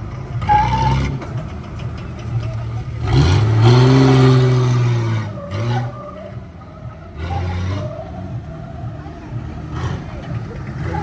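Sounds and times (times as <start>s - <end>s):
car engine revving: 0.0s - 11.0s
tyres skidding: 0.0s - 11.0s.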